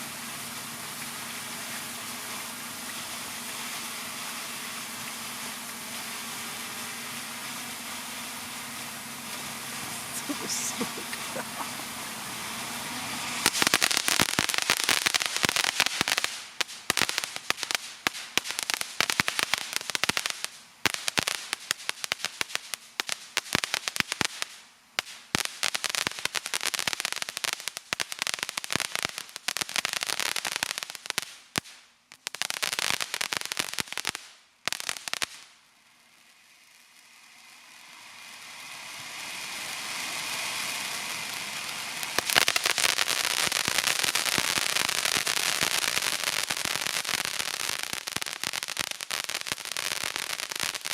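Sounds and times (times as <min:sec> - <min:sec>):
fireworks crackling: 0:00.0 - 0:50.9
steady hiss: 0:00.0 - 0:50.9.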